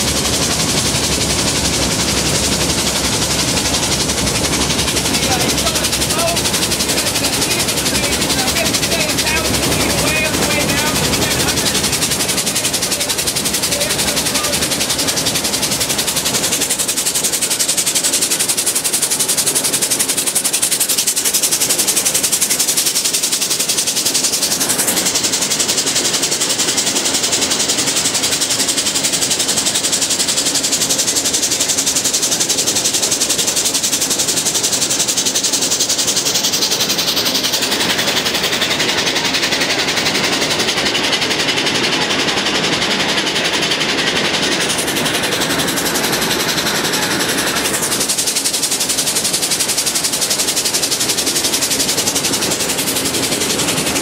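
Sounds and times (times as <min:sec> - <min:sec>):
cog train clattering: 0:00.0 - 0:54.0.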